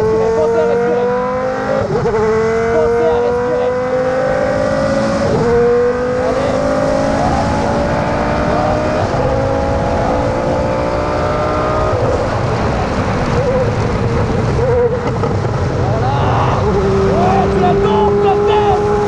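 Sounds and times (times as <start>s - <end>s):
racing car engine revving high: 0.0s - 19.0s.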